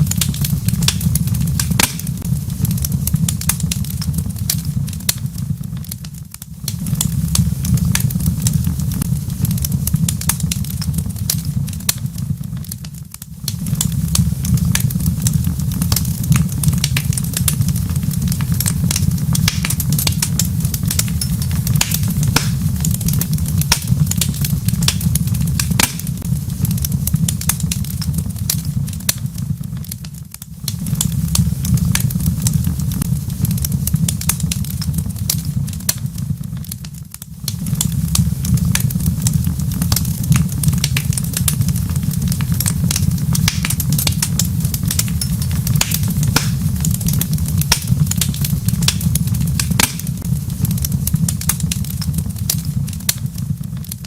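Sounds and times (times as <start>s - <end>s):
low rumble of fire: 0.0s - 54.0s
wood fire crackling and popping: 0.0s - 54.0s.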